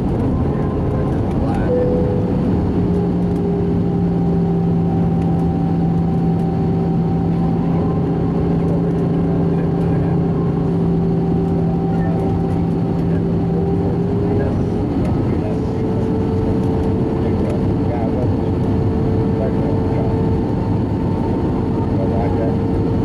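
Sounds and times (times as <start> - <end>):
aircraft engines rumbling: 0.0 - 23.0
constant low hum: 0.0 - 23.0.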